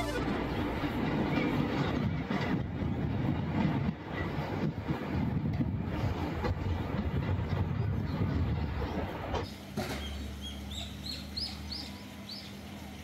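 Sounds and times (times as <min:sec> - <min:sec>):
train rumbling and knocking: 0:00.0 - 0:13.0.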